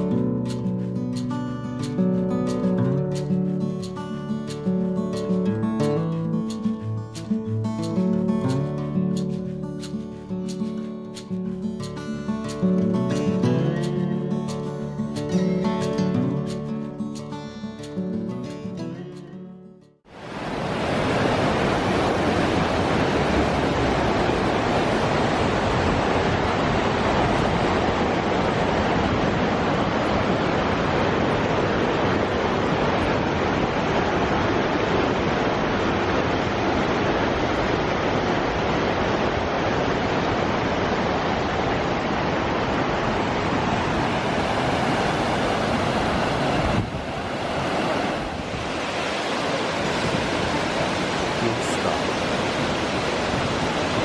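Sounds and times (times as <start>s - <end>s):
waterfall roaring: 0.0s - 19.3s, 20.1s - 54.0s.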